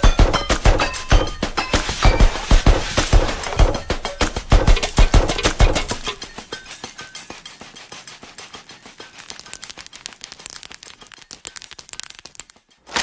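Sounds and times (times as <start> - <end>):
crackling and popping clicks: 0.0 - 13.0.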